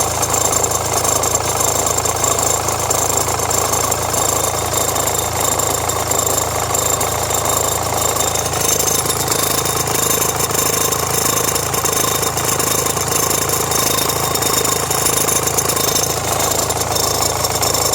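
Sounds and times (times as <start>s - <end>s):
diesel engine idling: 0.0s - 17.9s
engine rattle: 0.0s - 17.9s.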